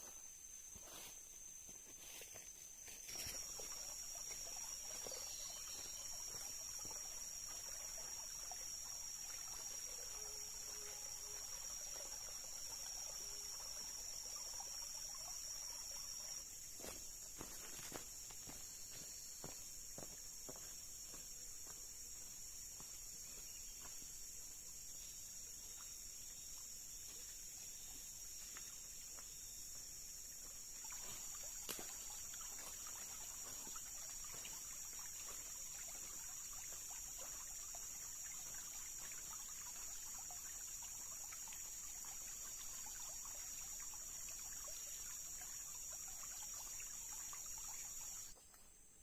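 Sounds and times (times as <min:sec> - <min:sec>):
insect chorus shrill drone: 0:00.0 - 0:49.0.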